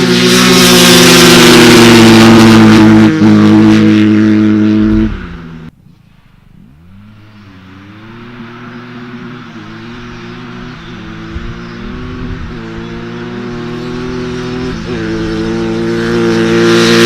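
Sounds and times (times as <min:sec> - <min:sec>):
dirt bike engine revving: 0:00.0 - 0:05.7, 0:06.5 - 0:17.0.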